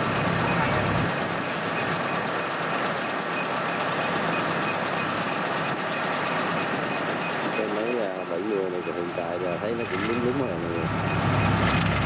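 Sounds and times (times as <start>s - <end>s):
farm machinery engines running: 0.0s - 12.0s.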